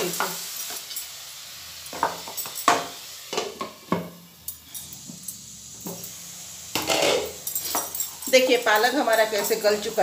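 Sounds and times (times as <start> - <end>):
hiss of frying food: 0.0 - 10.0.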